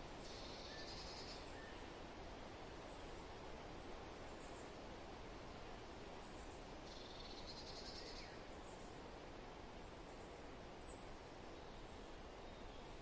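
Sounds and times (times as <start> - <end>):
soft wind noise: 0.0 - 13.0.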